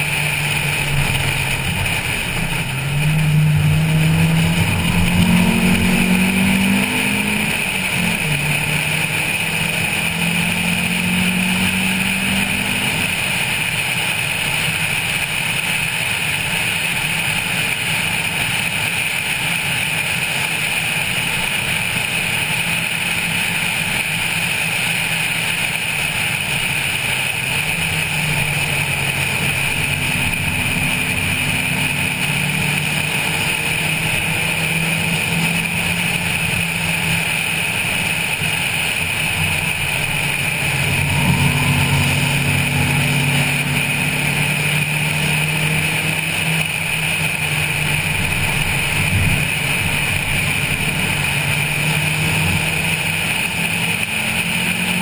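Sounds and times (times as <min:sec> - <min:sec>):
car engine pulling: 0:00.0 - 0:55.0
wind and road rush: 0:00.0 - 0:55.0.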